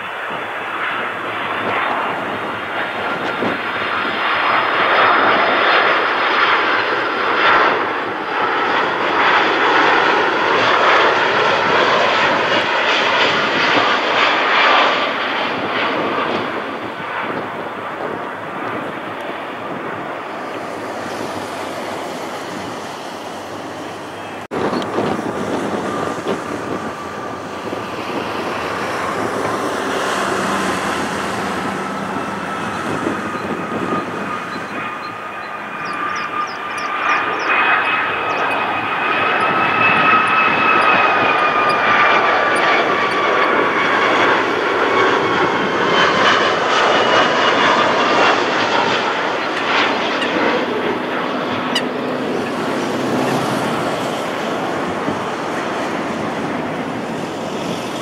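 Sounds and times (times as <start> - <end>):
airliner touching down: 0.0 - 58.0
jet engines whining and rumbling: 0.0 - 58.0.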